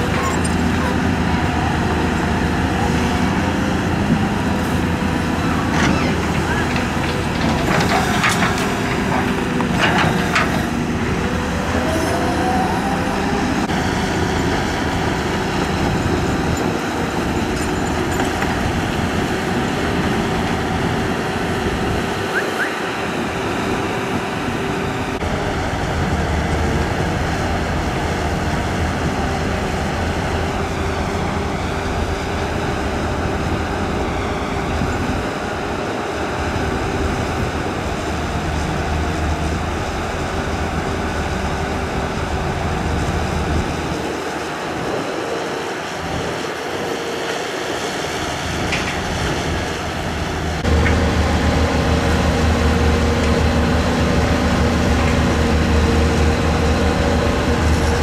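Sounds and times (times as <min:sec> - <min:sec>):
excavator diesel engines running: 0:00.0 - 0:58.0.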